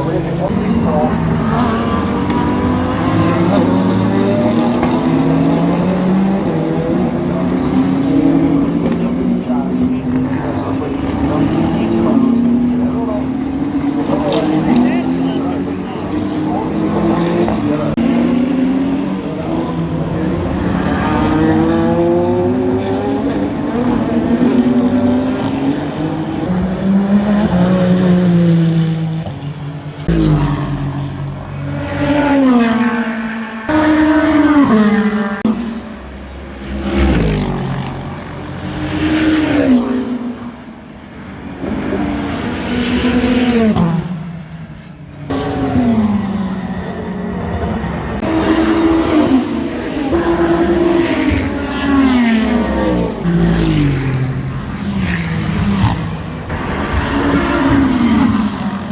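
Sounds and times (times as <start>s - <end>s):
race cars passing at speed: 0.0s - 58.9s.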